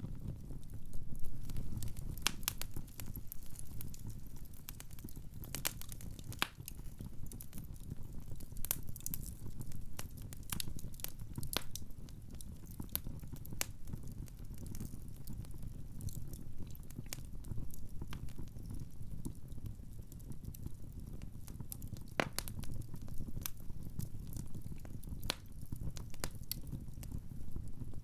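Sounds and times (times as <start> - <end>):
low rumble of burning logs: 0.0 - 28.0
wood fire crackling and popping: 0.0 - 28.0.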